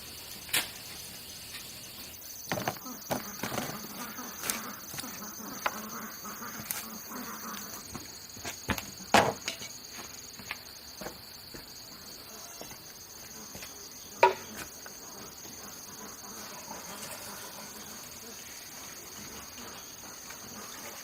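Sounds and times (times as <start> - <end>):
forest insects chorus: 0.0 - 21.0.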